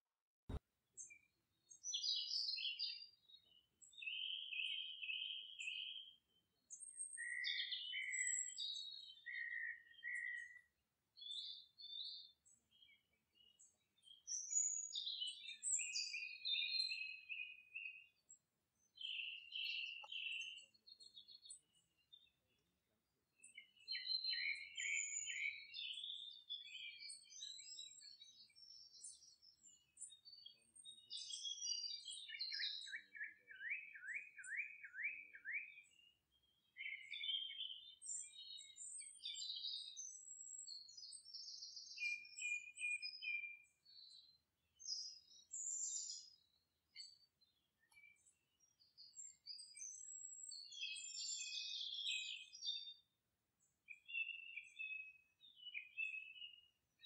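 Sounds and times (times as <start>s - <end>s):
birds chirping and trilling: 1.0s - 22.6s, 23.4s - 57.0s.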